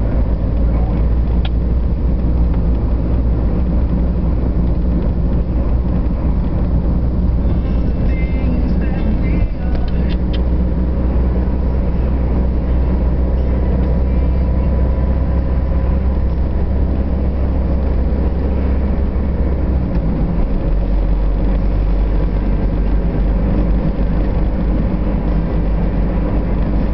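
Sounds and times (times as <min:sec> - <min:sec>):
car engine and road rumble: 0:00.0 - 0:26.9.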